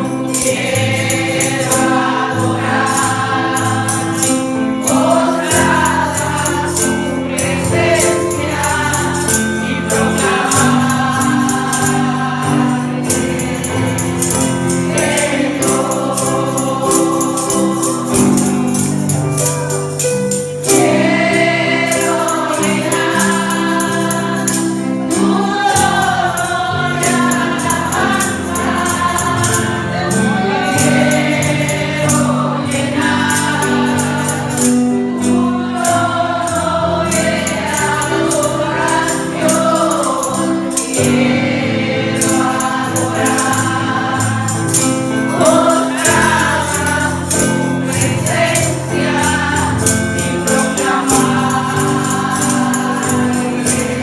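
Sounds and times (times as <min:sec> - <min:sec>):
congregation singing gospel song: 0:00.0 - 0:54.0
instrumental accompaniment: 0:00.0 - 0:54.0
tambourine shaking: 0:00.0 - 0:54.0.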